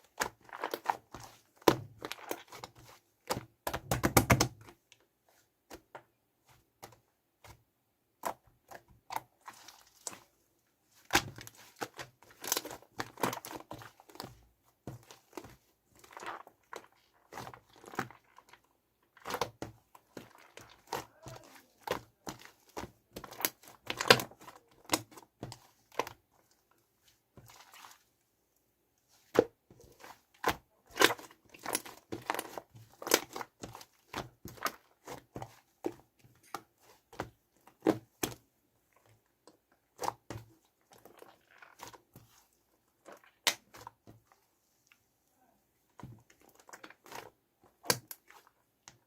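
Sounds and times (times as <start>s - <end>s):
shaving foam squishing by hand: 0.0s - 28.4s, 29.0s - 49.0s.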